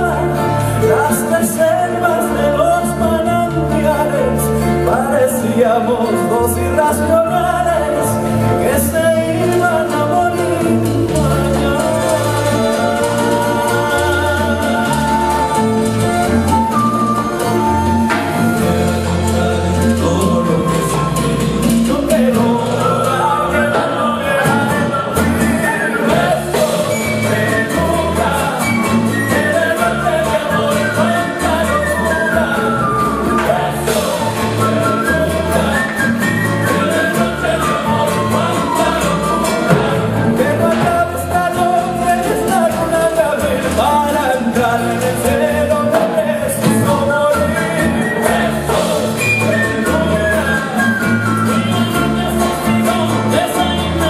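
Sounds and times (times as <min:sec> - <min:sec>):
men singing: 0:00.0 - 0:54.0
strummed and plucked guitars: 0:00.0 - 0:54.0.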